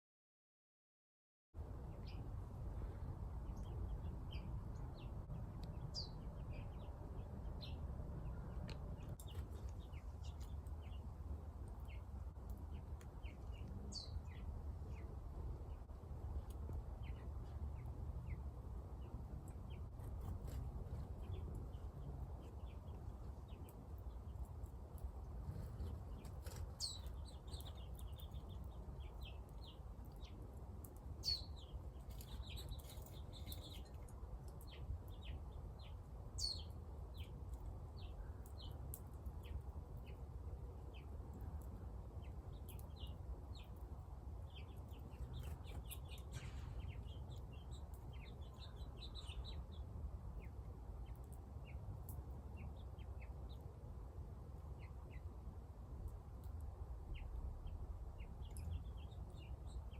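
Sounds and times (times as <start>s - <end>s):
steady low rumble: 1.6s - 59.9s
small birds chirping: 1.7s - 59.9s.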